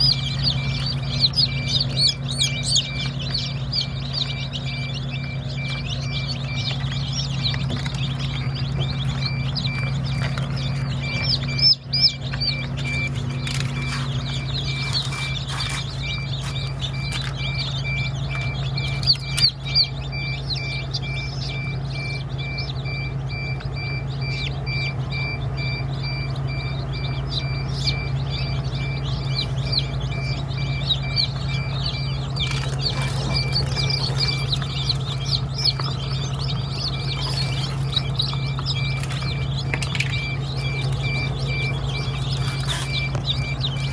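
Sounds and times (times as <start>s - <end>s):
chicks peeping: 0.0s - 43.9s
steady low hum: 0.0s - 43.9s.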